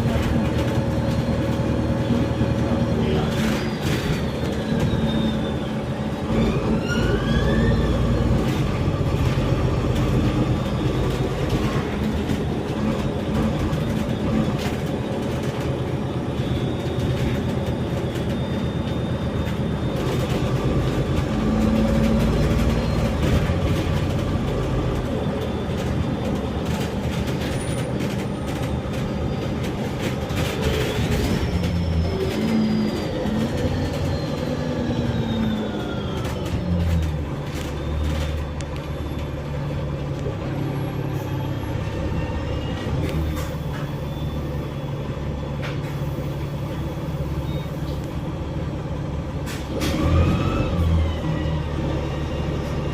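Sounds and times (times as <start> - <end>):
rattling clicks from bus body: 0.0 - 40.5, 42.8 - 44.0, 45.5 - 48.4, 49.4 - 50.9
bus engine running: 0.0 - 52.9.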